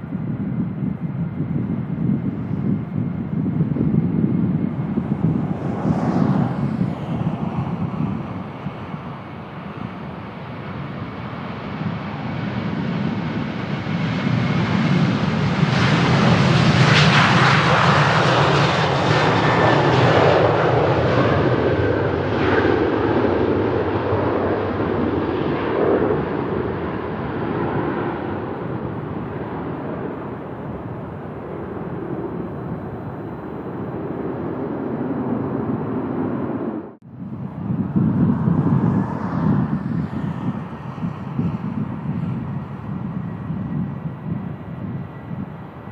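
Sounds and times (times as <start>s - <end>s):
jet airliner taking off: 0.0s - 45.9s
wind rumbling on microphone: 0.0s - 45.9s.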